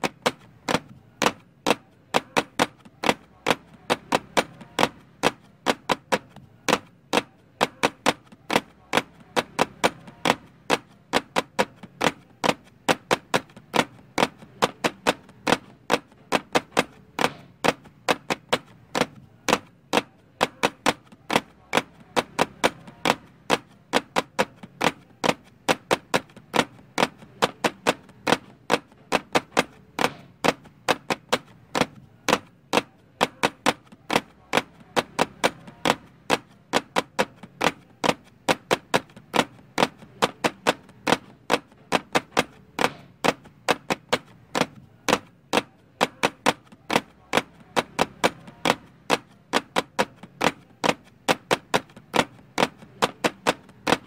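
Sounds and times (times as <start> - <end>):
rapid clicking and tapping: 0.0 - 54.0.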